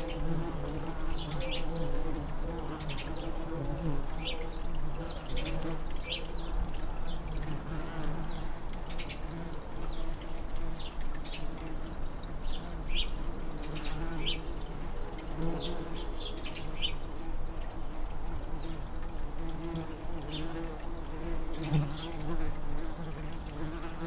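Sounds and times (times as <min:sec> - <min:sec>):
bumblebees buzzing: 0:00.0 - 0:24.0.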